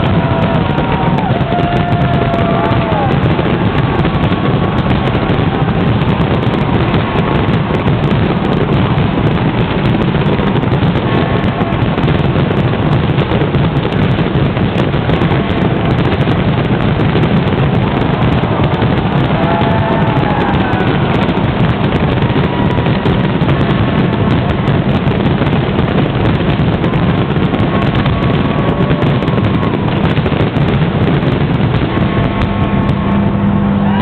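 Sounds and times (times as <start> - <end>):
fireworks barrage rumbling: 0.0 - 34.0
fireworks crackling: 0.0 - 34.0.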